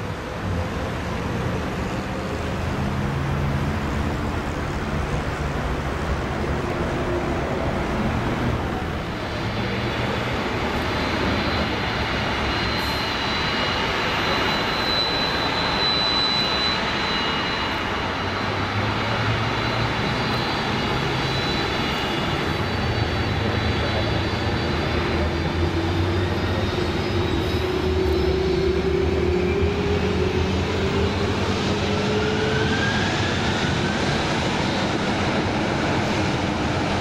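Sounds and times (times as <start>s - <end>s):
high jet whine: 0.0s - 37.0s
jet engines roaring: 0.0s - 37.0s.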